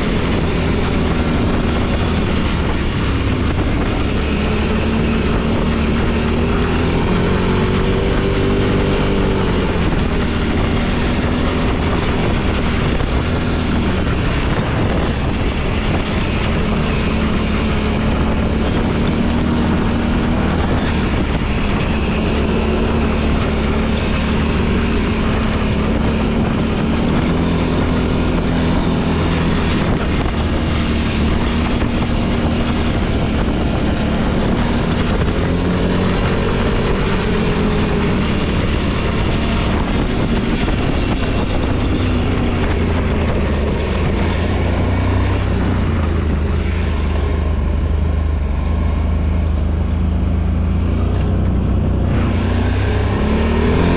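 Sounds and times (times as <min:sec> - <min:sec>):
off-road machine engine running: 0:00.0 - 0:53.9
wind rushing over microphone: 0:00.0 - 0:53.9.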